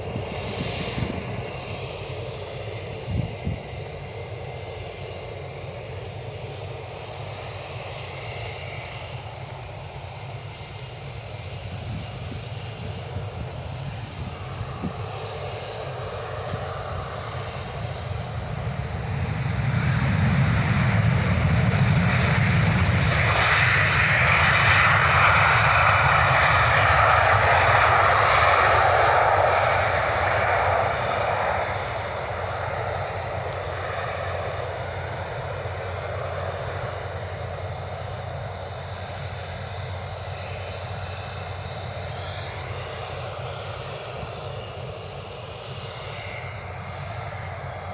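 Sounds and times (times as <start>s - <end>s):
airplane engines passing: 0.0s - 47.9s.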